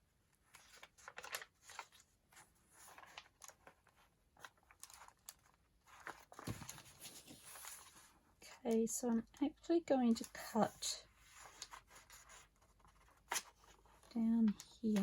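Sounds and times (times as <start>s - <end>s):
paper rustling and crinkling: 0.3s - 9.2s, 10.1s - 15.0s.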